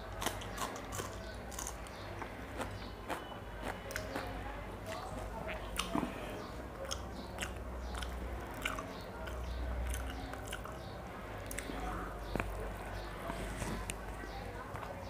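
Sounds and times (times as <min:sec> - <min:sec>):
chewing with mouth clicks: 0:00.1 - 0:15.0.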